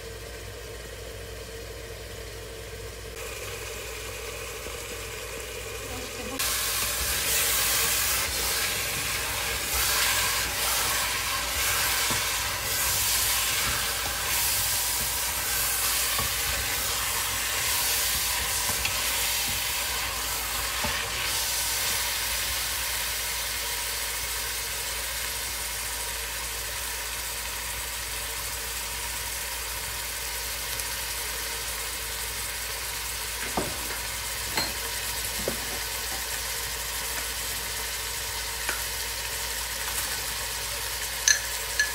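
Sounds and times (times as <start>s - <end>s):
food sizzling in oil: 5.8s - 41.9s.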